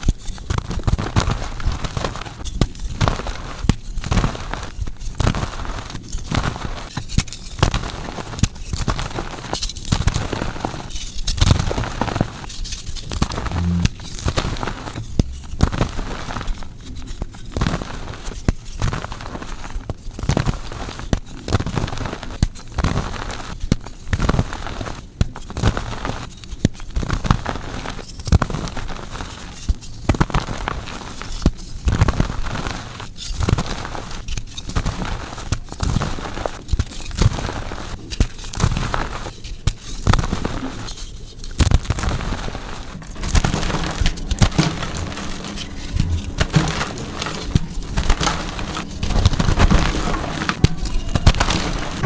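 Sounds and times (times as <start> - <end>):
gym chalk crushing and crumbling: 0.0 - 23.3, 27.1 - 52.0.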